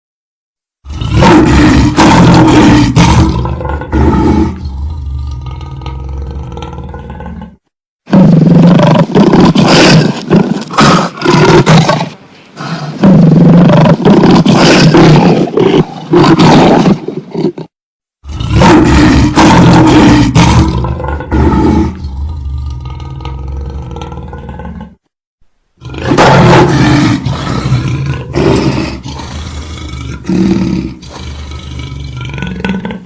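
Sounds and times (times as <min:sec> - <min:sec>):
lion roaring: 0:00.8 - 0:25.0, 0:25.8 - 0:33.0.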